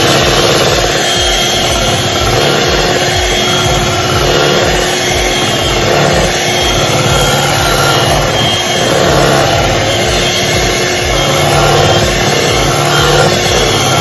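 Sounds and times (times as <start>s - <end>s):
electric hand mixer running: 0.0s - 14.0s.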